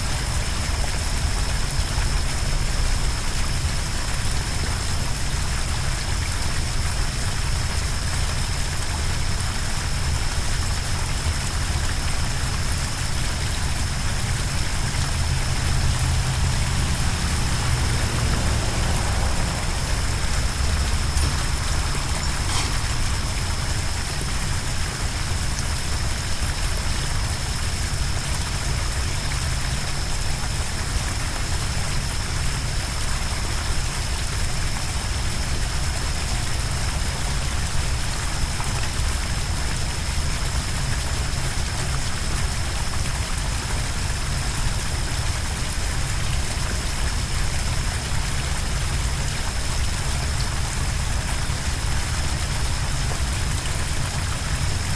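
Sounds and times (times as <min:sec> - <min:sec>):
rushing water: 0:00.0 - 0:54.9.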